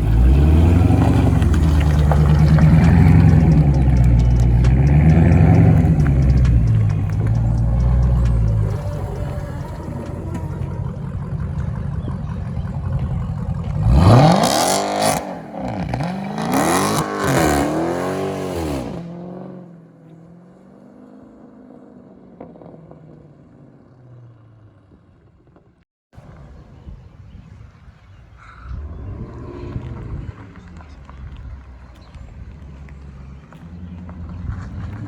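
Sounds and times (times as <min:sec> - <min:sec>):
car engine accelerating hard: 0:00.0 - 0:25.6, 0:28.8 - 0:35.0.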